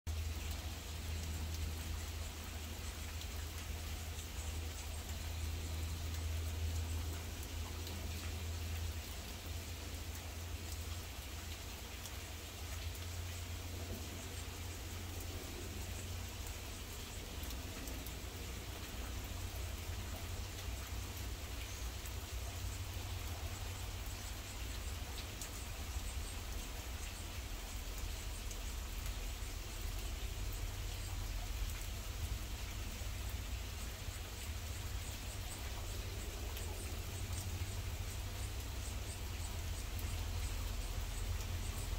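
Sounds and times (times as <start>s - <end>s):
low steady rumble: 0.1s - 41.9s
rain falling: 0.1s - 41.9s
raindrops tapping: 0.1s - 41.9s.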